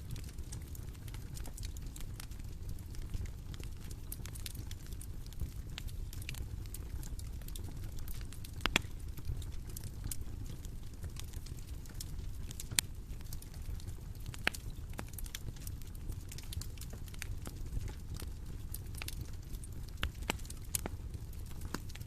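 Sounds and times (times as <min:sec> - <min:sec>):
bonfire crackling: 0:00.0 - 0:22.0
sharp snaps of burning wood: 0:00.1 - 0:22.0.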